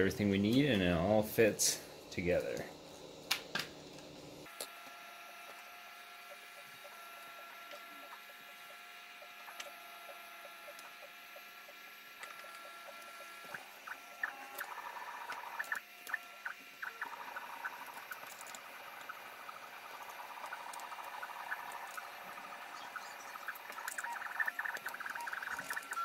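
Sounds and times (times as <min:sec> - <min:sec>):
printer stepper motors humming: 0:04.4 - 0:26.0.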